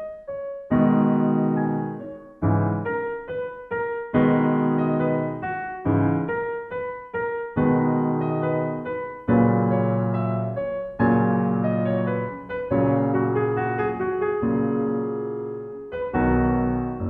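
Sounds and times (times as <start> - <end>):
piano chords and notes: 0.0 - 17.0.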